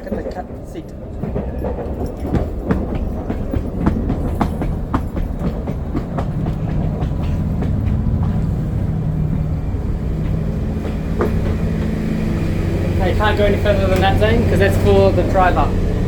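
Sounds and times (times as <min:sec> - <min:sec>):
low drone of train drive: 0:00.0 - 0:16.0
train wheels clicking over rail joints: 0:00.0 - 0:16.0.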